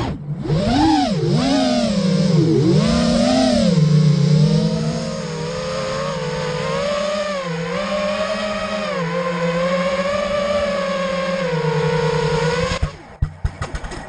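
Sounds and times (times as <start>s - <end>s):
quadcopter motors buzzing whine: 0.0s - 14.0s.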